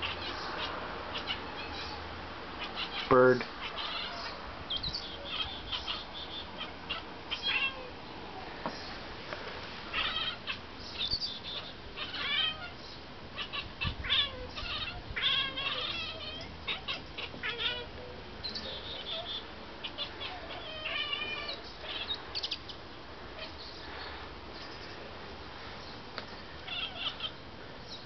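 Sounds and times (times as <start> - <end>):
cats chattering: 0.0 - 8.1, 9.8 - 25.0, 25.8 - 28.0.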